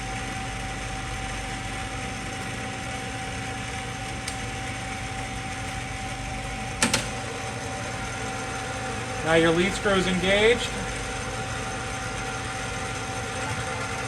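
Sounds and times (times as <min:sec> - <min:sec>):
lathe humming with whine: 0:00.0 - 0:14.0.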